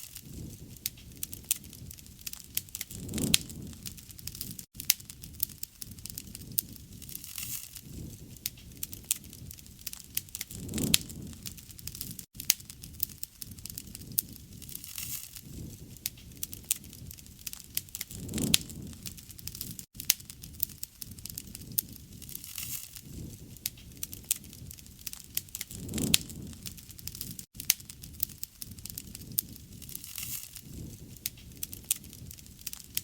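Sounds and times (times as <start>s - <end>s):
wood fire crackling and popping: 0.0s - 33.0s
low rumble of flame: 0.2s - 33.0s.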